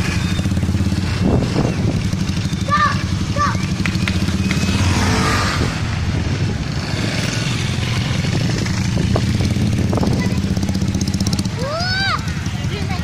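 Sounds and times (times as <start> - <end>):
motorcycle engine idling: 0.0 - 5.1, 5.9 - 13.0.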